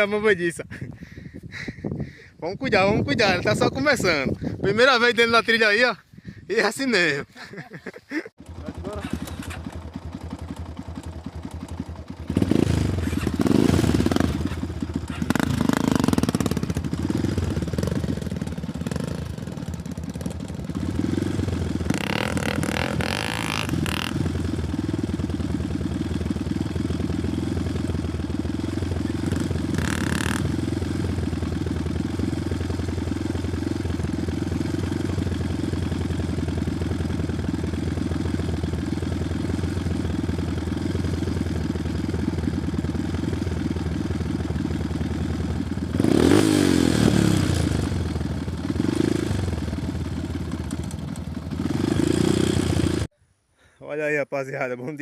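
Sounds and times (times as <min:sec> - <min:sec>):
motorcycle engine revving: 0:08.4 - 0:53.1.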